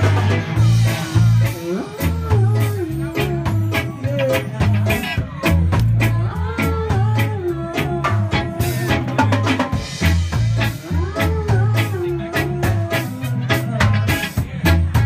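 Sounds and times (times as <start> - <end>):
person singing into microphone: 0.0 - 15.0
pulsing bass line: 0.0 - 15.0
reggae band playing: 0.0 - 15.0.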